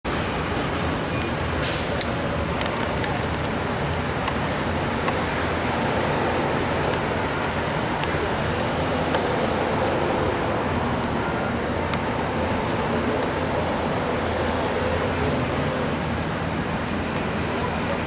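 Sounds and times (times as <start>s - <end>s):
diesel trucks droning: 0.1s - 18.0s.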